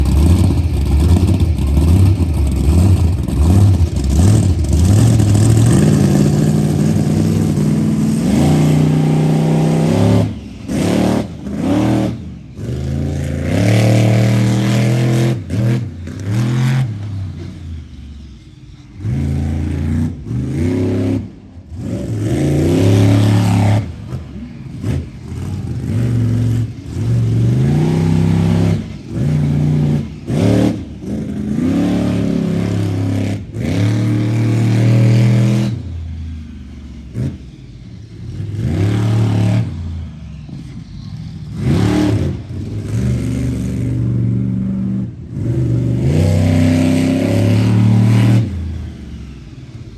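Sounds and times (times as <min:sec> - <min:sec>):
monster truck engine revving: 0:00.0 - 0:49.9.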